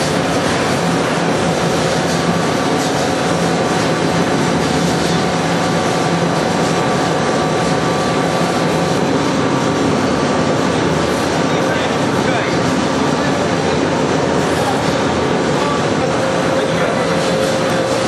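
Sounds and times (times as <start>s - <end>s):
pellet mill mechanical drone: 0.0s - 18.0s.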